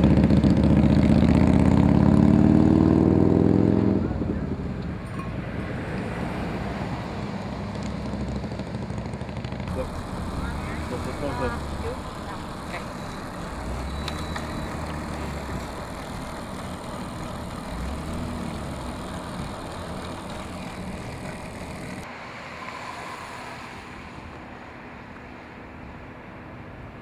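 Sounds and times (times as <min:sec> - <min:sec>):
road traffic rumble: 0:00.0 - 0:27.0
wind: 0:00.0 - 0:27.0.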